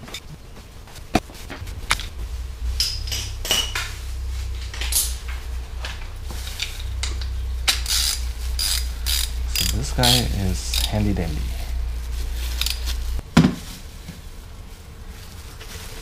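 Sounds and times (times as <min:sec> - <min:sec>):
low hum: 0:00.4 - 0:16.0.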